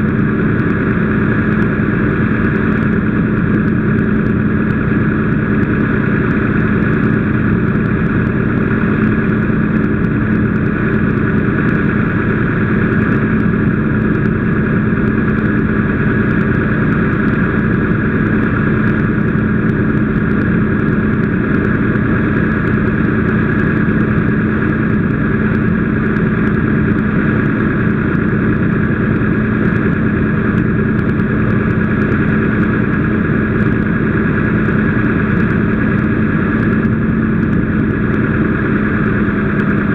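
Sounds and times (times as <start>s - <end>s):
engine drone: 0.0s - 39.9s.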